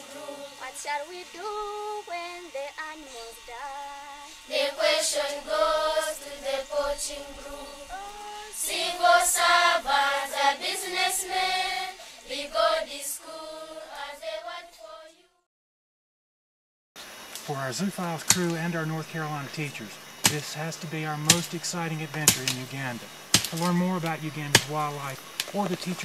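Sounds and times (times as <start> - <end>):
children's choir singing: 0.0 - 15.4, 17.5 - 26.0.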